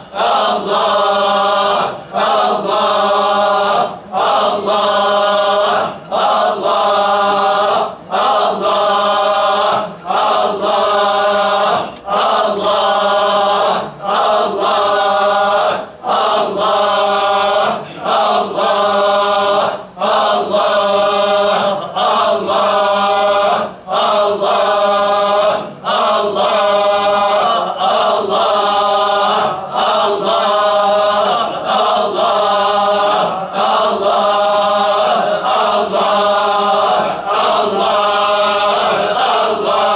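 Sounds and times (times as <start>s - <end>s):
men chanting in unison: 0.0s - 39.9s.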